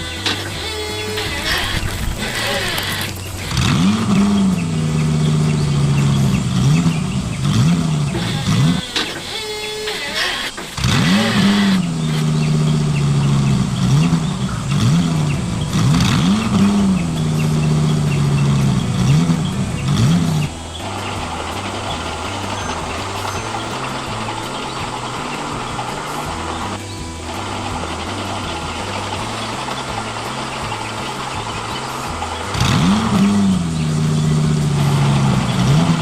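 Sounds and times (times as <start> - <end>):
engine revving: 0.0 - 36.0.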